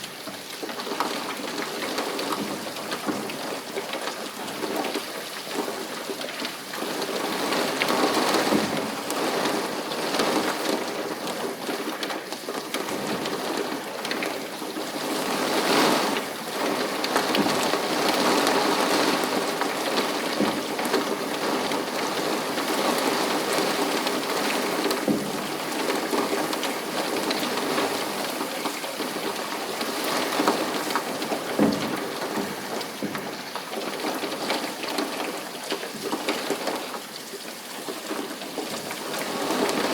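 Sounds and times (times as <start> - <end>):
rain drops striking surface: 0.0 - 39.9.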